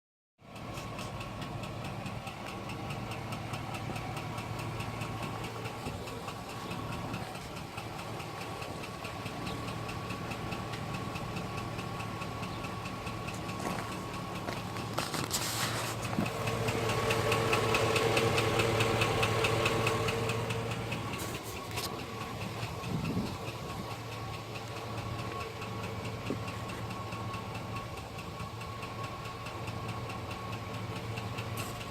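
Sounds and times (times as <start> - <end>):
pickup engine idling with knock: 0.4 - 31.9.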